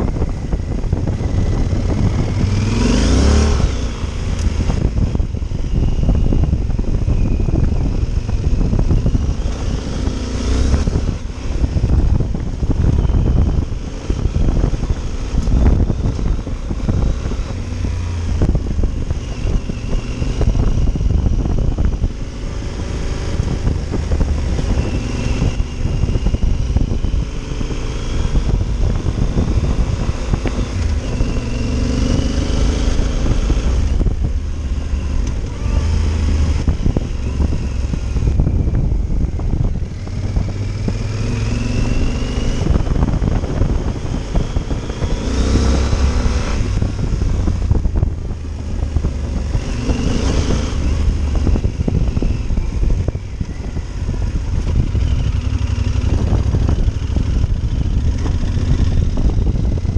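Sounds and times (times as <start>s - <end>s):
motorcycle engine accelerating: 0.0s - 59.9s
steady low rumble: 0.0s - 59.9s.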